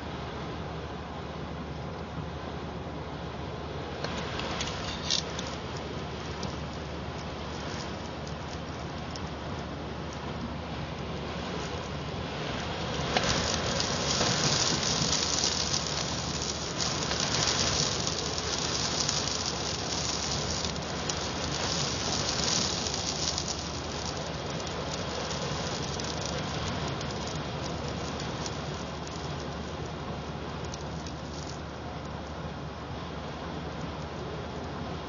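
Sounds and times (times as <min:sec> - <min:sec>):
wind driving sand against building: 0:00.0 - 0:35.0.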